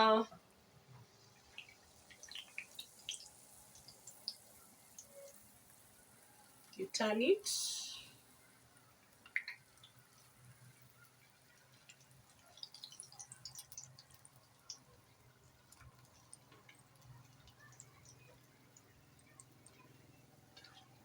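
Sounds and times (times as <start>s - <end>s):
food popping in frying oil: 0.9s - 21.0s.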